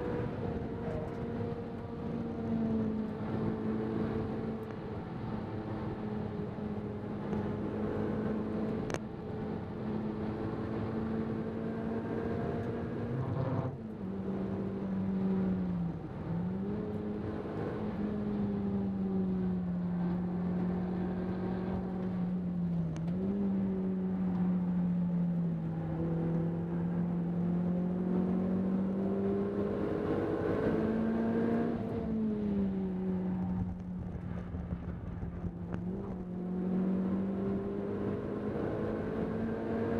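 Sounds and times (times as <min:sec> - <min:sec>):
car engine in cabin: 0:00.0 - 0:39.9.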